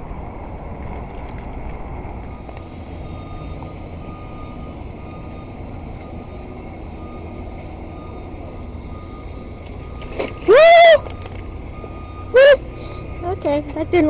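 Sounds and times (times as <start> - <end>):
heavy construction machinery rumble: 0.0 - 14.0
reversing alarm beeping: 2.2 - 14.0.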